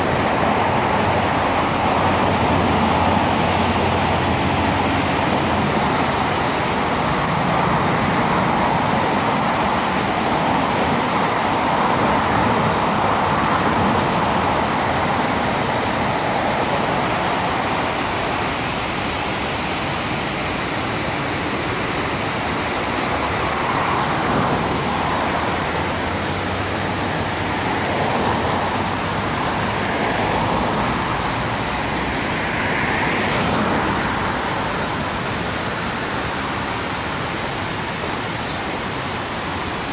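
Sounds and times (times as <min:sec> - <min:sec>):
river rushing over dam: 0:00.0 - 0:39.9.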